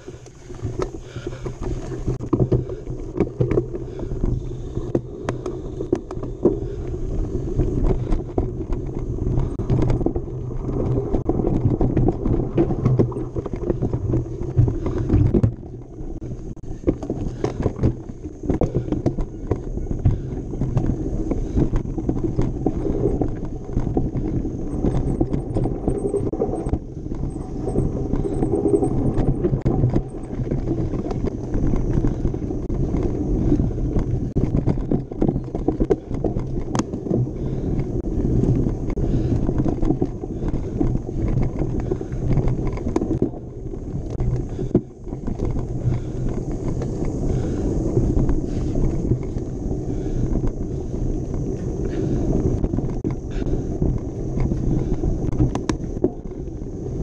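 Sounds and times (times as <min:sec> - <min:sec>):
bike rattling and knocking: 0:00.0 - 0:57.0
tyre noise on dirt: 0:00.0 - 0:57.0.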